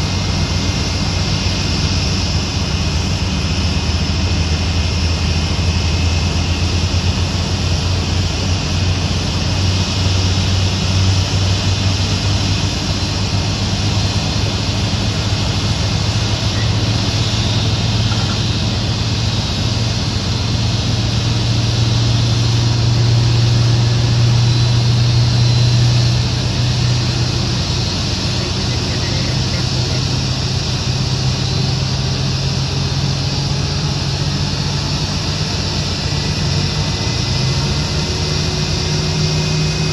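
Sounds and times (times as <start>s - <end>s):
low engine rumble: 0.0s - 39.9s.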